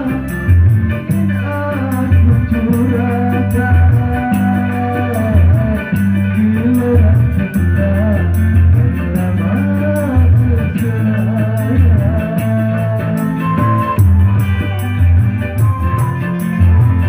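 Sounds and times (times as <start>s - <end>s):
loud music over sound system: 0.0s - 17.0s.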